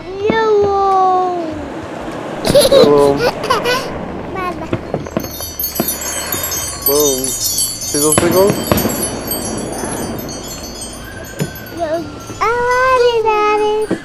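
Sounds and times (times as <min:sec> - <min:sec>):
wind chimes tinkling: 0:02.5 - 0:14.0.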